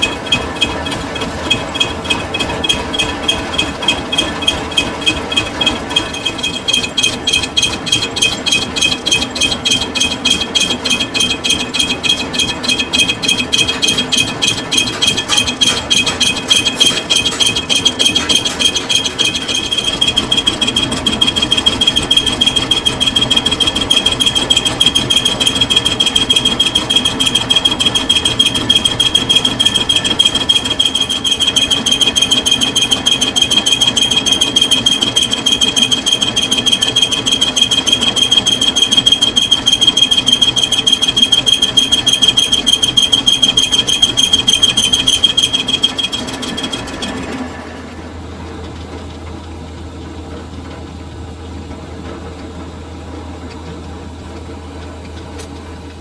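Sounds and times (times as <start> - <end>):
metal lathe rattling: 0.0 - 47.6
high cutting whine: 0.0 - 47.7.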